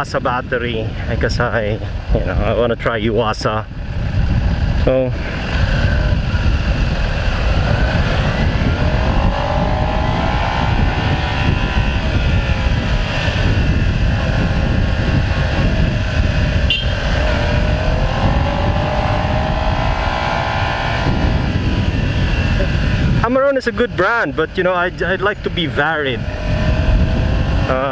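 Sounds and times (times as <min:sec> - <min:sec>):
motorcycle engine accelerating: 0:00.0 - 0:27.9
wind rumble on microphone: 0:00.0 - 0:27.9.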